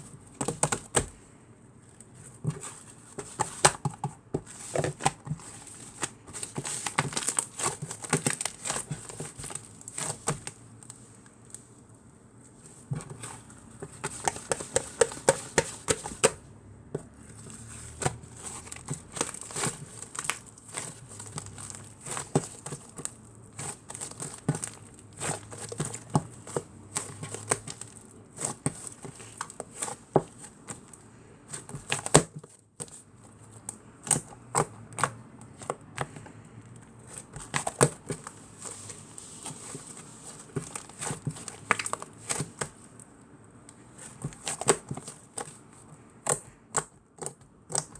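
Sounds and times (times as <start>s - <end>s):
grapes crackling and snapping: 2.0s - 11.7s, 17.0s - 47.9s.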